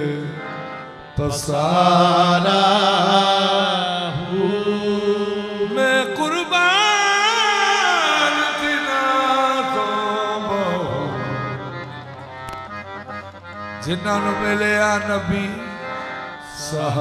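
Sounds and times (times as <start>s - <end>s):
man singing wordless devotional line: 0.0s - 12.4s, 13.8s - 17.0s
harmonium: 0.0s - 17.0s.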